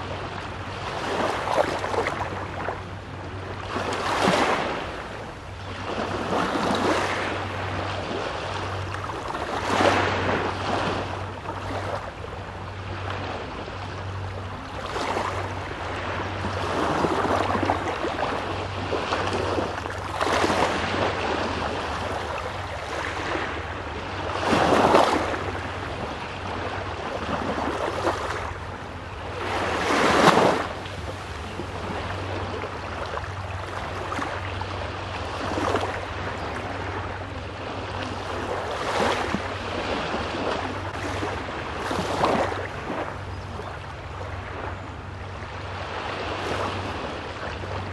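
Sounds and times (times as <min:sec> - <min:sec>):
small waves breaking on shore: 0:00.0 - 0:47.9
steady low hum: 0:00.0 - 0:47.9.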